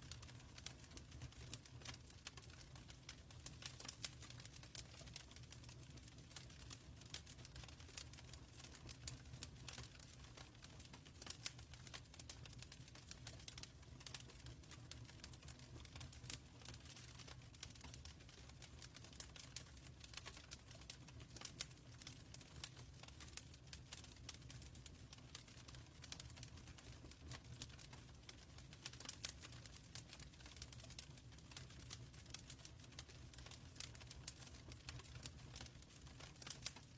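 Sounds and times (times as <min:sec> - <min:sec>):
fireplace fire crackling: 0:00.0 - 0:36.9.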